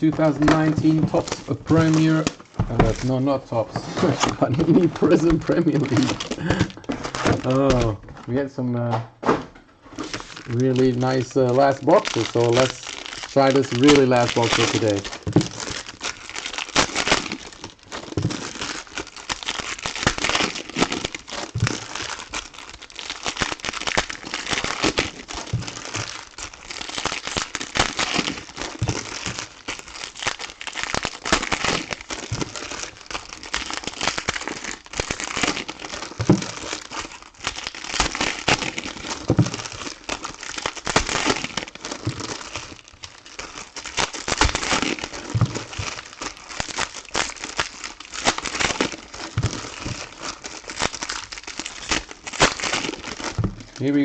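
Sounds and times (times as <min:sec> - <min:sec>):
plastic wrapping crinkling: 0:00.0 - 0:08.9, 0:09.8 - 0:54.0.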